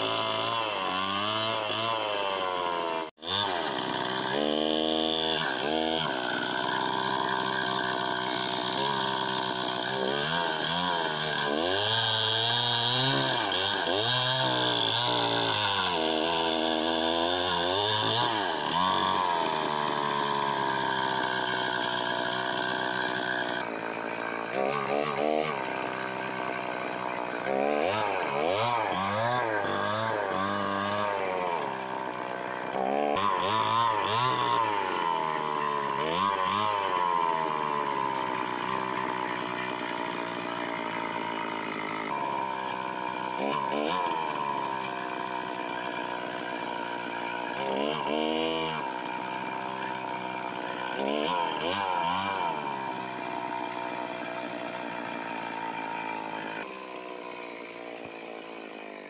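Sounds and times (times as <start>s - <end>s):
chainsaw running at high revs: 0.0s - 59.0s.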